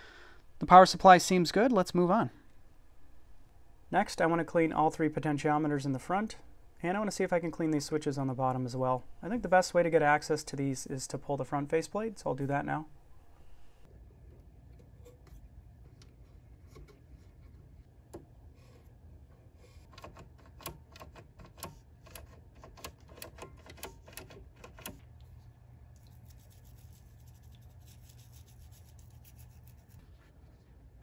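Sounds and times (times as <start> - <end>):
low steady hum: 0.0 - 20.3, 23.4 - 31.0.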